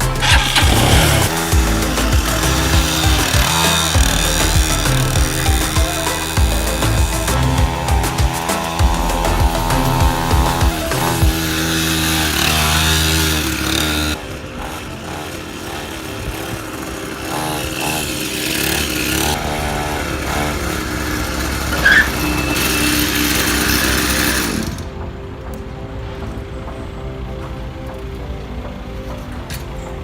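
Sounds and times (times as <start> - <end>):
music with distorted buzzing tones: 0.0 - 30.0.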